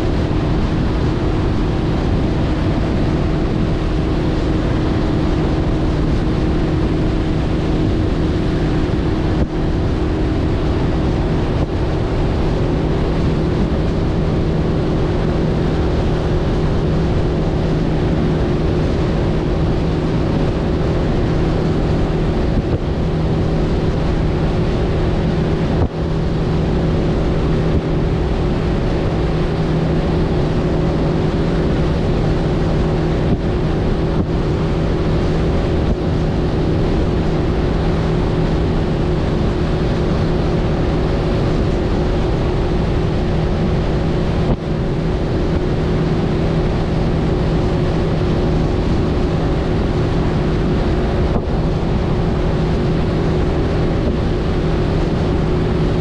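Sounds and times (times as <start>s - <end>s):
outboard motor droning: 0.0s - 56.0s
wind on microphone: 0.0s - 56.0s.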